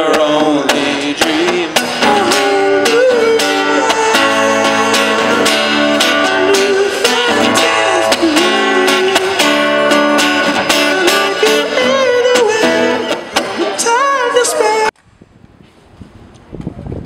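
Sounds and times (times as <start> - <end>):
acoustic guitar strummed: 0.0 - 14.9
man singing long notes: 0.0 - 15.0.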